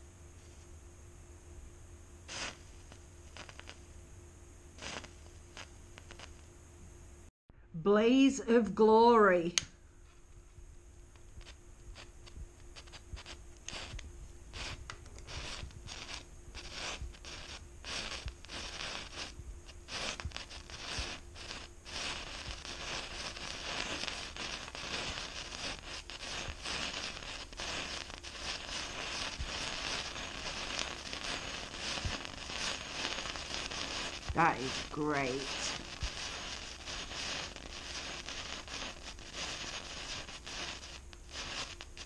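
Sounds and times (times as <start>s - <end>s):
firework crackling and fizzing: 2.3s - 3.9s, 4.8s - 6.4s, 11.1s - 42.0s.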